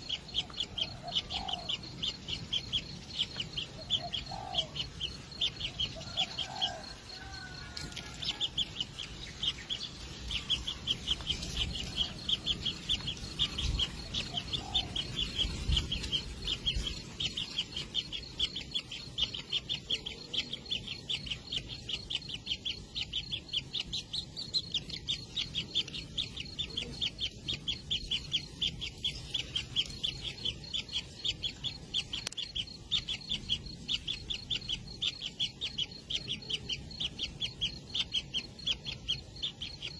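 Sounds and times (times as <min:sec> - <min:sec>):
lower bending bird calls: 0:00.0 - 0:39.9
nestlings chirping: 0:00.0 - 0:39.9.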